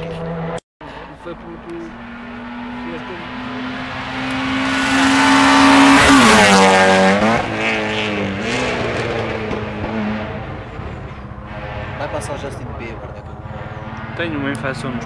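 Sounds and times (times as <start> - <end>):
rally car engine passing by: 0.0 - 15.0.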